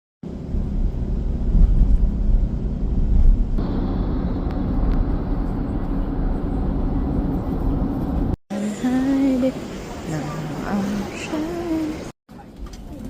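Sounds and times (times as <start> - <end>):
steady hum: 0.2 - 12.1
train running rumble: 0.2 - 13.0.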